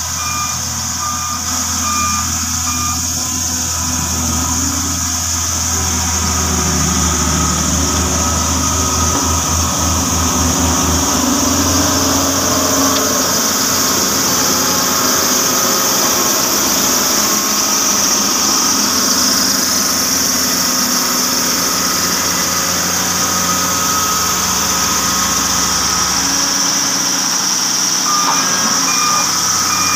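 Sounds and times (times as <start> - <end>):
heavy machine engine rumbling: 0.0 - 29.9
reversing beeper: 0.0 - 29.9.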